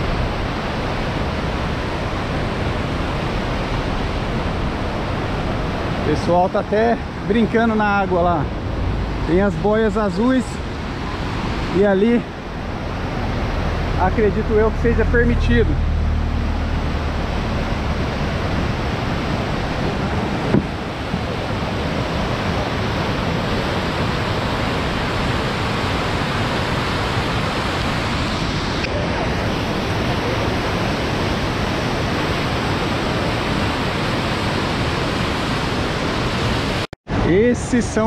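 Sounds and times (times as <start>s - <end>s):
rushing water in rapids: 0.0s - 38.0s.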